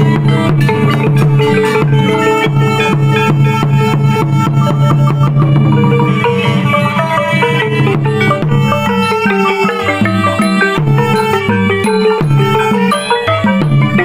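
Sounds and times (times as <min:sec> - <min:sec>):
fast melodic instruments: 0:00.0 - 0:14.0
hand drum strokes: 0:00.0 - 0:14.0.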